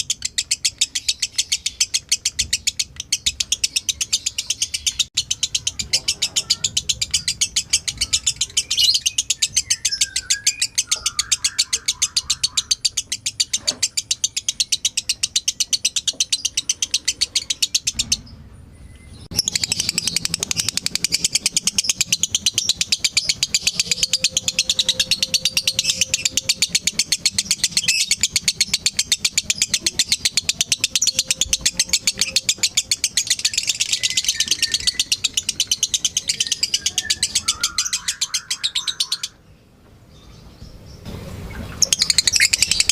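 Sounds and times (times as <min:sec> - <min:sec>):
lovebird chattering trill: 0:00.0 - 0:18.2, 0:19.3 - 0:39.4, 0:41.5 - 0:42.9.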